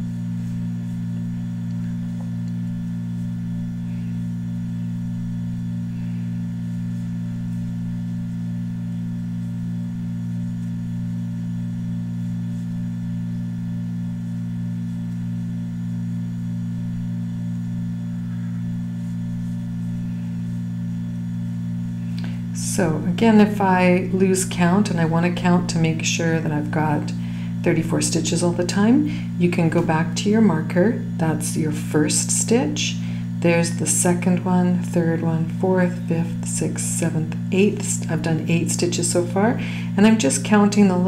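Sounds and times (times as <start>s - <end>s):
low hum of held tones: 0.0s - 41.0s.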